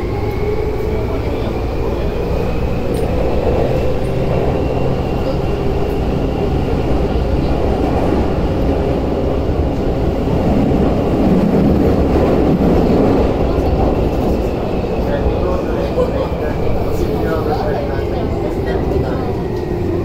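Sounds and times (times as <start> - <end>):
subway train rumbling in tunnel: 0.0 - 20.0.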